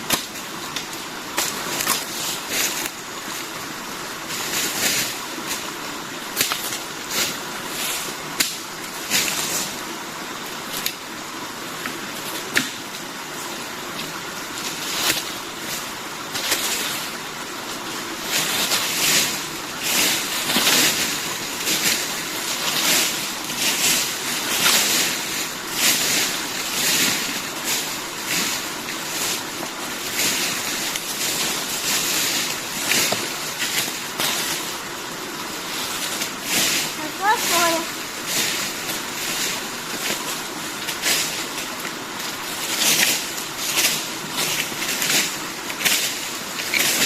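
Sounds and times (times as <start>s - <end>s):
dry leaves rustling and scraping: 0.0s - 47.0s.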